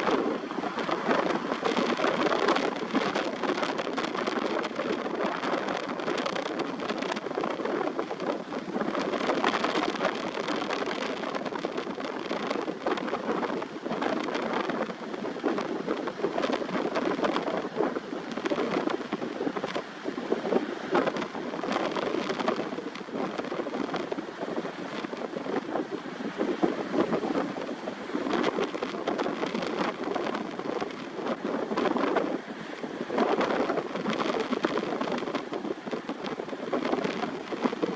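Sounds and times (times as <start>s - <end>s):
rough sea: 0.0s - 37.9s
strong wind: 0.0s - 37.9s.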